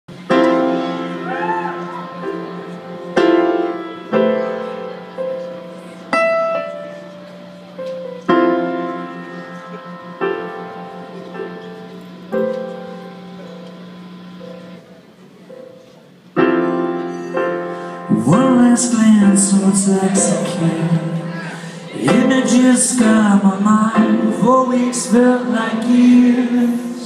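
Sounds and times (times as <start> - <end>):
slow piano chords: 0.1 - 27.0.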